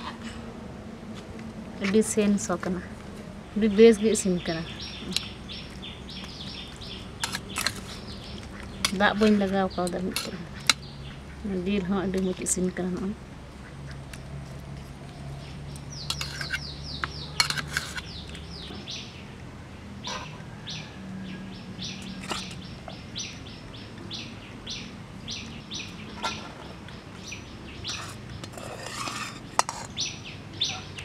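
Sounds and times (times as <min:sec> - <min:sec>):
small birds chirping: 0:01.8 - 0:31.0.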